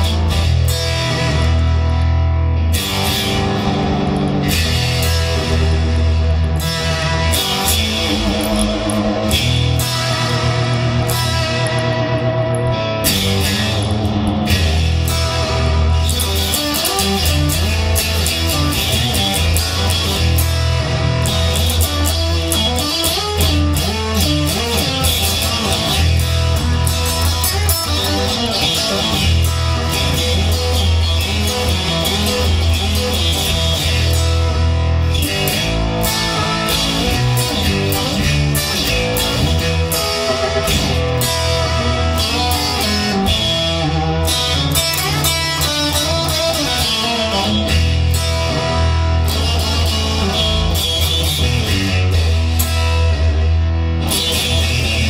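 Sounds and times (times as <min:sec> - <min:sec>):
guitar: 0:00.0 - 0:55.0
heavy bass line: 0:00.0 - 0:55.0.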